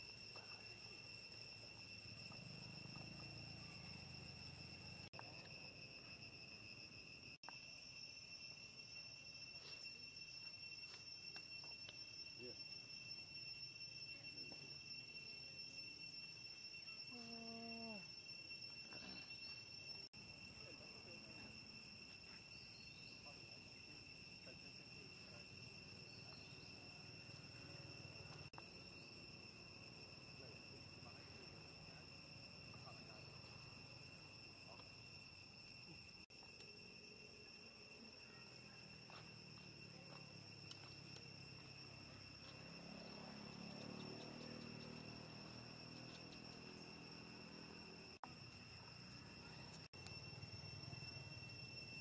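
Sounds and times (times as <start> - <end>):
insect drone: 0.0 - 52.0.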